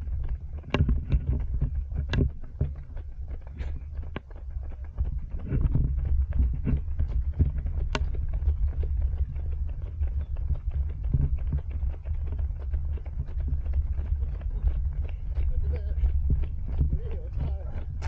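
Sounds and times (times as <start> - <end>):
low microphone rumble: 0.0 - 18.0
running footsteps: 0.0 - 18.0.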